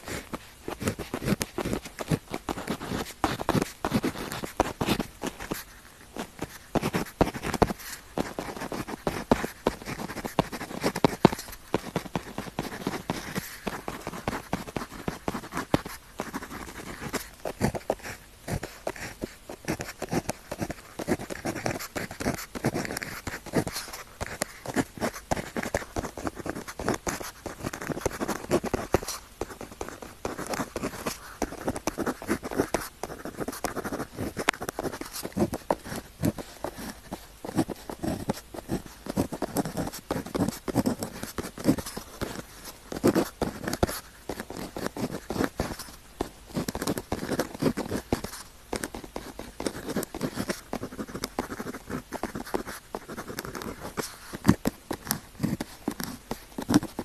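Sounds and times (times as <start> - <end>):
pen scratching on paper: 0.0 - 57.0.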